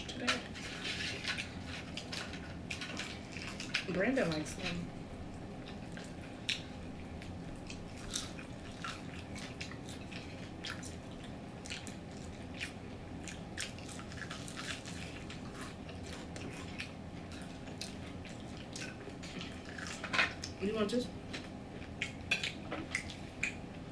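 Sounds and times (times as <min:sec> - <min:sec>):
chewing crispy fried food: 0:00.1 - 0:04.4, 0:05.3 - 0:20.6, 0:21.2 - 0:23.6.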